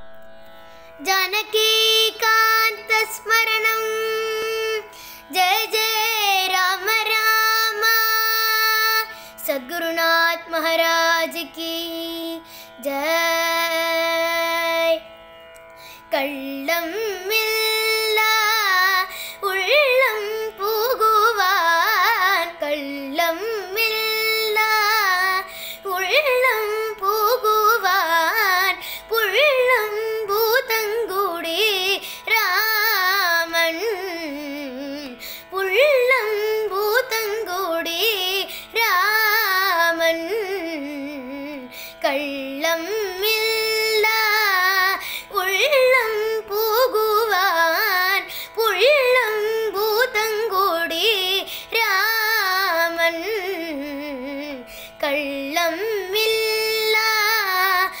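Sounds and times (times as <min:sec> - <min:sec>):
person singing ornamented melody: 0:00.8 - 0:15.0, 0:15.8 - 0:58.0.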